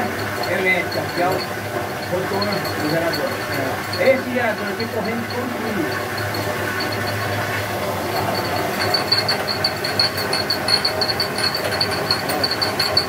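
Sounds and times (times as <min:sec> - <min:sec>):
rapid regular ticking: 0:00.0 - 0:13.0
steady mechanical hum: 0:00.0 - 0:13.0.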